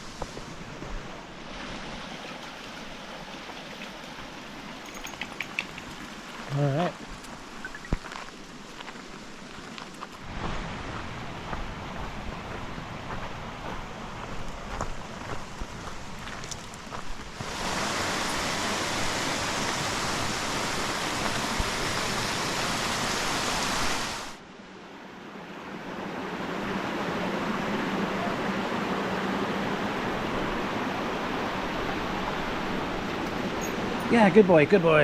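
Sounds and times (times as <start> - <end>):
creek water rushing: 0.0 - 35.0.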